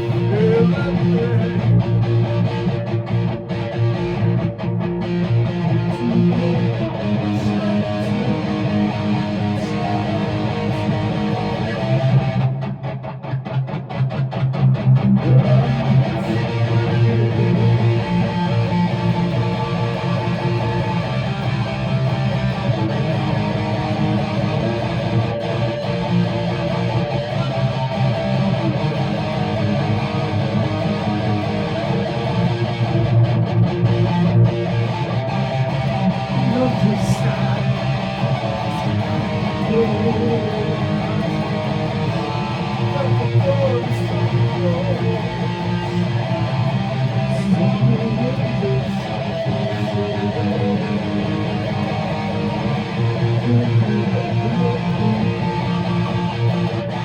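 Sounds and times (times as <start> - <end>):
guitar strummed and plucked: 0.0 - 57.0.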